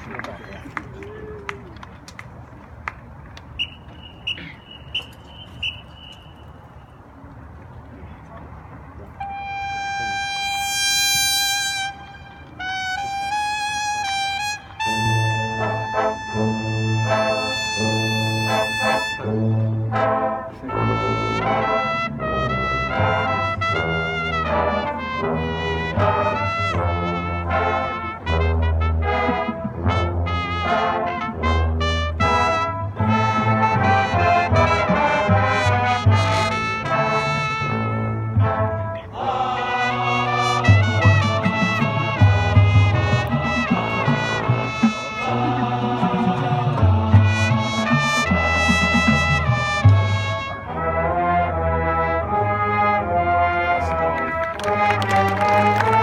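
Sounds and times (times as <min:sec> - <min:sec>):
marching band brass chords: 0:03.4 - 0:07.1, 0:09.2 - 0:56.0.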